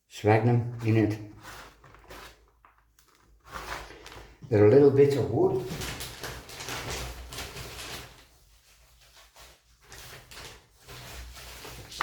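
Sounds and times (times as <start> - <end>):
potting mix rustling and scraping: 0.2 - 12.0.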